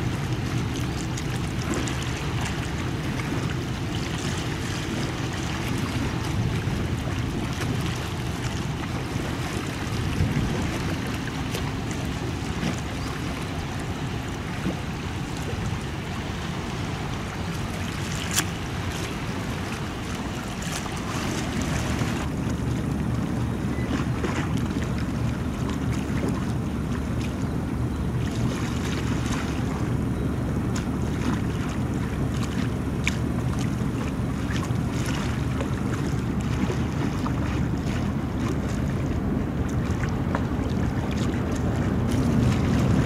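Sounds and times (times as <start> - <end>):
ferry engine drone: 0.0 - 43.0
water washing at waterline: 0.0 - 43.0
wind on microphone: 0.0 - 43.0.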